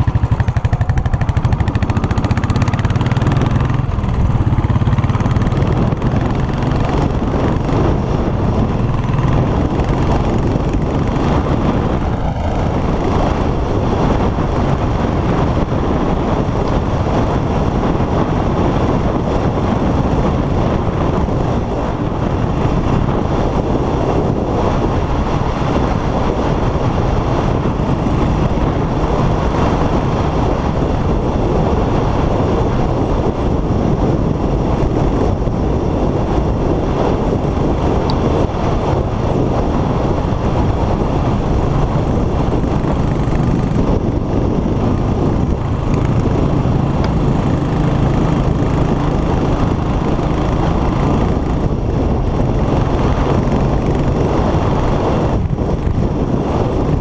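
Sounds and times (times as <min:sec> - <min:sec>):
motorcycle engine running: 0:00.0 - 0:57.0
wind rush over microphone: 0:00.0 - 0:57.0.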